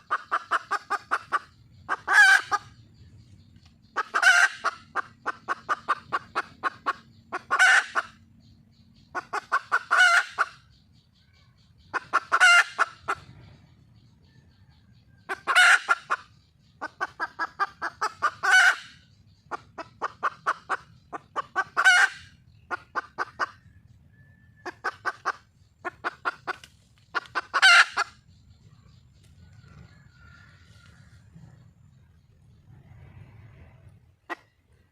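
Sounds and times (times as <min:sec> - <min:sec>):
junglefowl hen cackling: 0:00.0 - 0:03.0, 0:03.6 - 0:32.0, 0:32.6 - 0:34.8.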